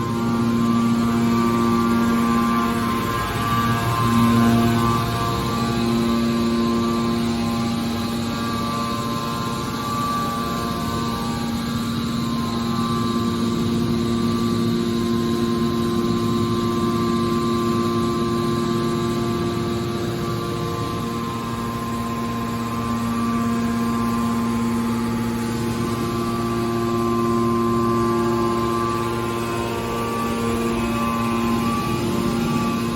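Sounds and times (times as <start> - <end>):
industrial machinery humming: 0.0 - 32.9.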